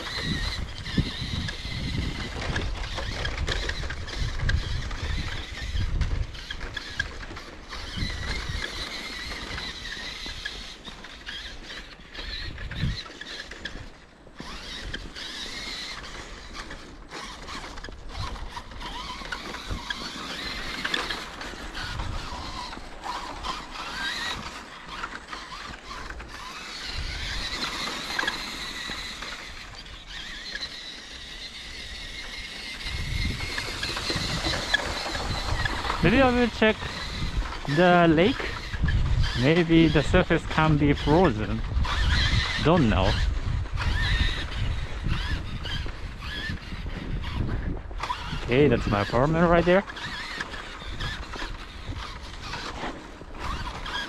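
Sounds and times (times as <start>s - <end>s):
electric toy truck motor whining: 0.0s - 54.0s.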